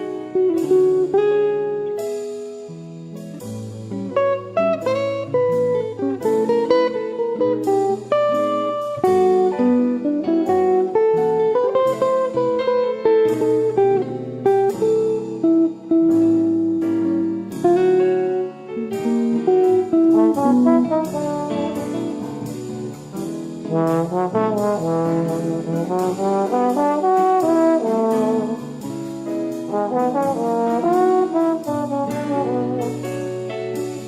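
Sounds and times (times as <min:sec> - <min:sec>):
jazzy brass music with beat: 0:00.0 - 0:02.6, 0:03.2 - 0:34.0.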